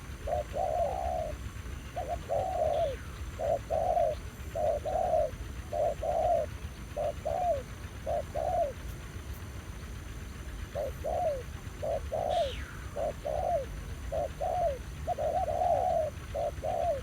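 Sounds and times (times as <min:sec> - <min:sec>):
doves cooing: 0:00.0 - 0:09.2, 0:10.4 - 0:17.0.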